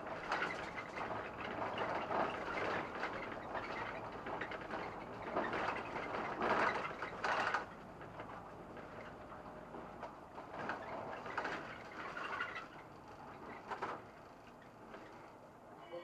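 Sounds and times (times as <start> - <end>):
bus interior running noise: 0.0 - 16.0.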